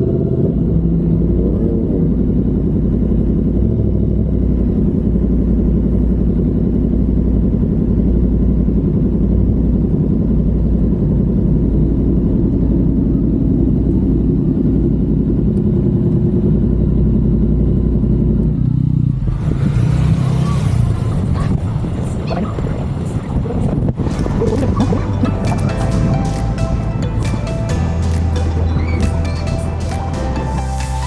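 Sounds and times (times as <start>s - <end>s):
motorcycle engine idling: 0.0s - 19.3s, 20.8s - 31.0s.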